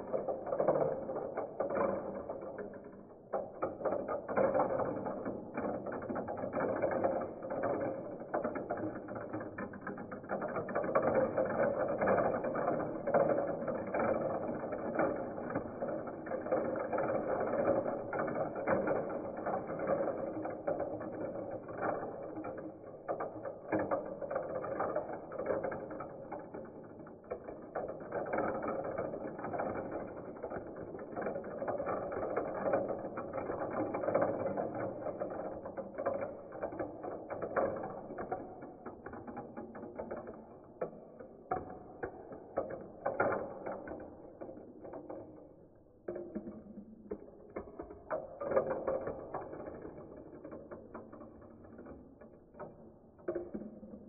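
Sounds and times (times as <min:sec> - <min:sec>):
plastic balls rattling down marble run: 0:00.0 - 0:54.0.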